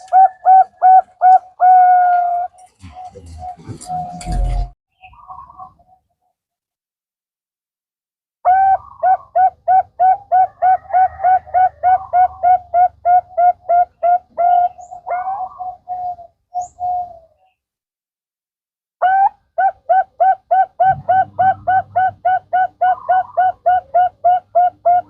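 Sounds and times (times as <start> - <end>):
dove cooing: 0.0 - 5.9, 8.5 - 17.6, 19.0 - 25.0.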